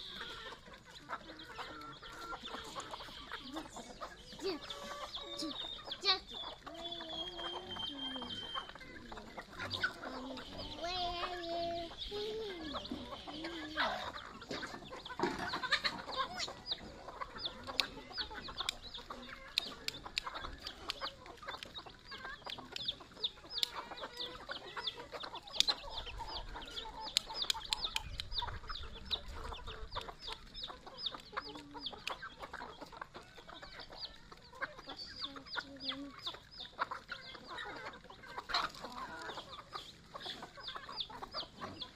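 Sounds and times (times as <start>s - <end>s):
beaks pecking on concrete: 0.0s - 41.9s
chicks peeping: 0.0s - 41.9s
hens clucking: 0.0s - 41.9s.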